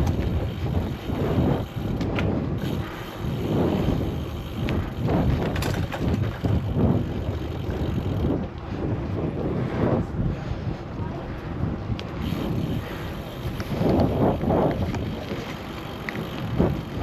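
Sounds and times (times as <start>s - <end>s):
bicycle clicks and rattles: 0.0s - 9.3s, 11.8s - 17.0s
wind buffeting microphone: 0.0s - 17.0s.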